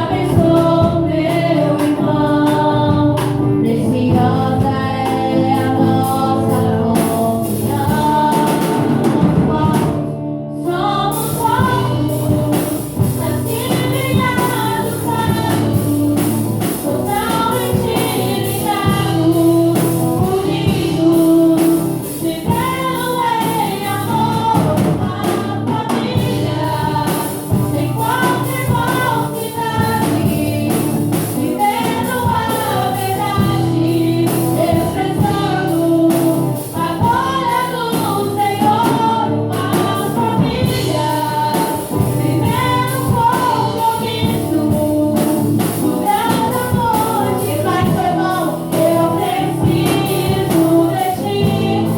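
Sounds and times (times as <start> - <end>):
gospel singing: 0.0 - 51.9.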